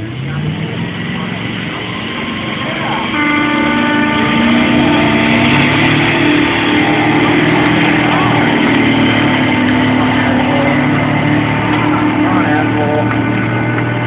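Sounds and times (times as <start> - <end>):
truck engine at full throttle: 0.0 - 14.0.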